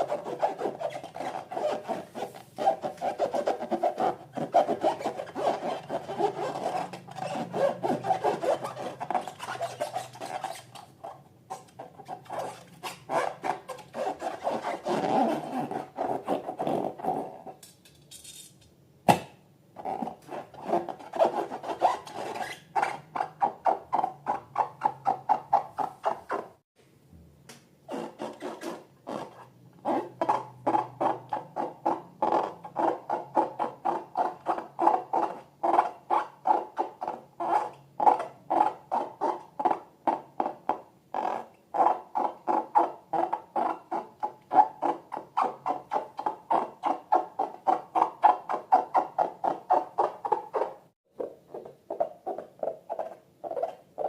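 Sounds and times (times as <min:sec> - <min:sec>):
squeaky rubbing of balloons: 0:00.0 - 0:17.6, 0:19.8 - 0:26.6, 0:27.9 - 0:54.0.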